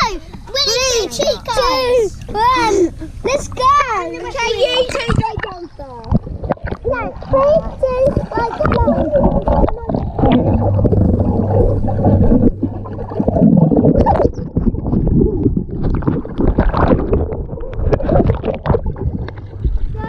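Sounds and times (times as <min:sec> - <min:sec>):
low steady hum: 0:00.0 - 0:20.0
muffled bath water sloshing: 0:00.0 - 0:20.0.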